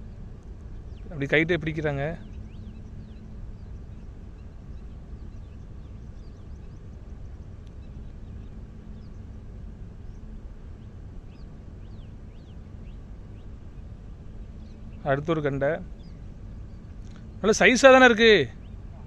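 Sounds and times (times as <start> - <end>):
faint hum: 0.0 - 19.0
low steady rumble: 0.0 - 19.0
small birds chirping: 0.0 - 19.0.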